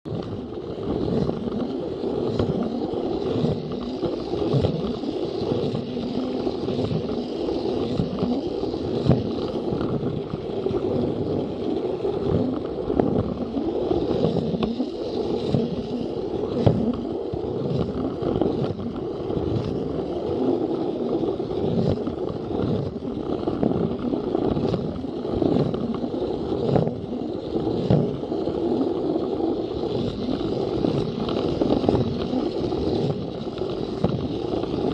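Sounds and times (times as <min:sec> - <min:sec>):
toy train motor whir: 0:00.1 - 0:34.9
wheels clacking on track joints: 0:00.1 - 0:34.9.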